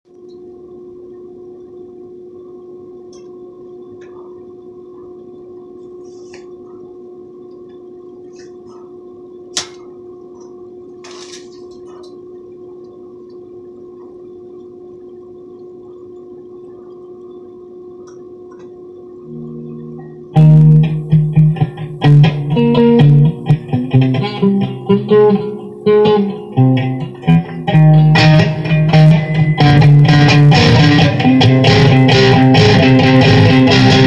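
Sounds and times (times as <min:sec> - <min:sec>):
steady low hum: 0:00.1 - 0:34.0.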